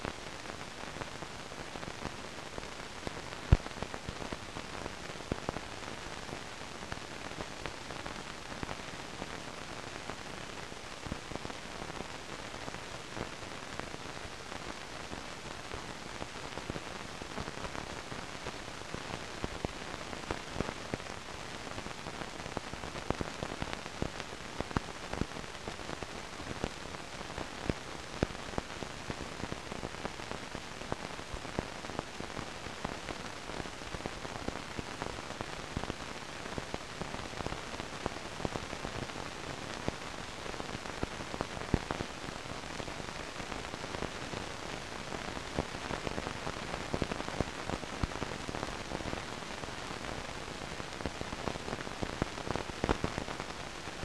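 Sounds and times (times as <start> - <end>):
crackles and pops: 0.0 - 54.0
recording surface hiss: 0.0 - 54.0.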